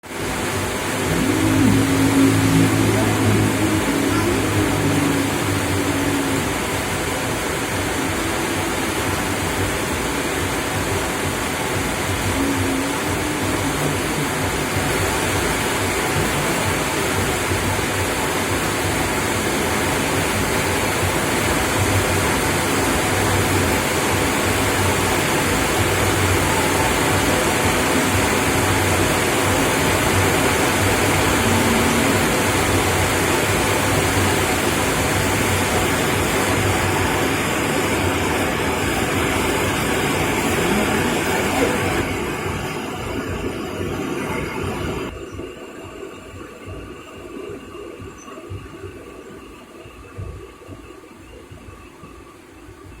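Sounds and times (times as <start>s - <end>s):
heavy rain on plants: 0.0s - 45.2s.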